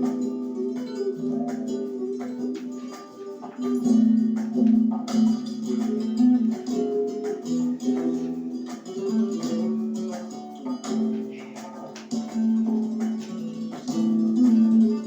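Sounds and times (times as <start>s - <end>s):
flamenco acoustic guitar music: 0.0s - 15.0s.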